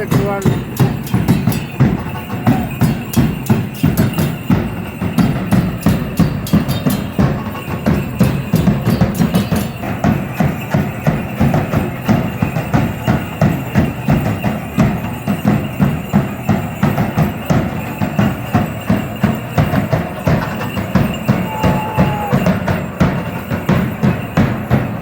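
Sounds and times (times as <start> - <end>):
drums in a steady beat: 0.0 - 25.0.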